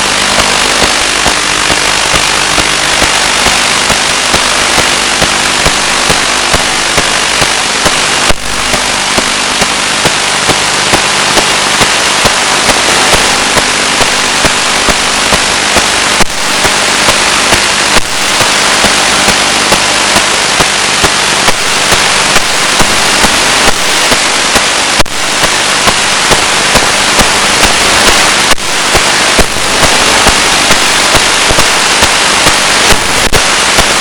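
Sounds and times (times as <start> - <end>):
loud static hiss: 0.0 - 34.0.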